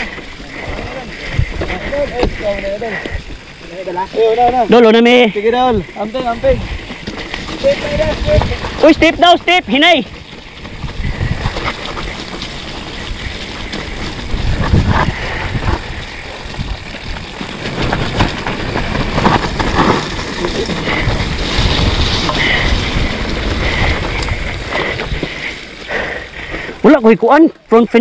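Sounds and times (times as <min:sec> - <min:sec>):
wind buffeting microphone: 0:00.0 - 0:03.6, 0:05.6 - 0:26.8
bike knocking and rattling: 0:00.0 - 0:28.0
tyres rumbling on trail: 0:00.0 - 0:28.0.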